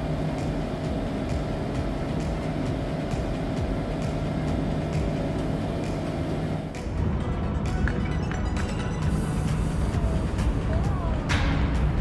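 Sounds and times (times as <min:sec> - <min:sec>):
high-speed train rumble: 0:00.0 - 0:12.0.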